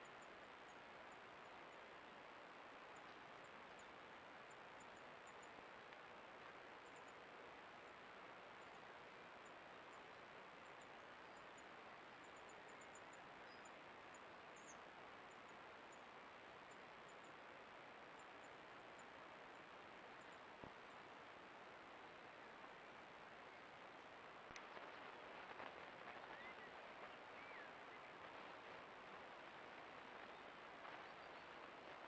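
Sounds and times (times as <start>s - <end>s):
faint microphone hiss: 0.0s - 32.0s.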